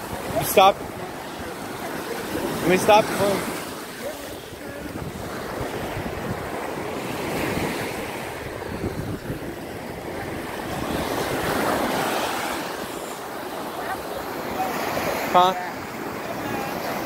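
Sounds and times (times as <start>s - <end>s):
wind buffeting microphone: 0.0s - 14.7s
ocean surf washing on beach: 0.0s - 17.0s.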